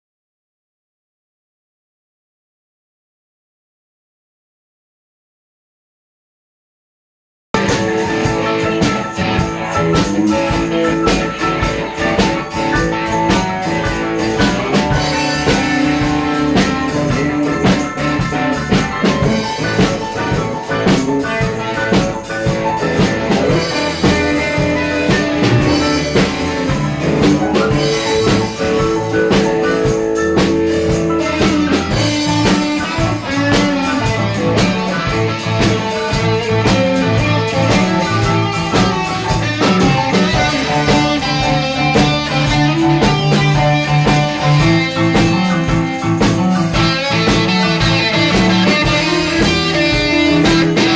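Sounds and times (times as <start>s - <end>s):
live band guitar and drums: 7.6s - 50.9s.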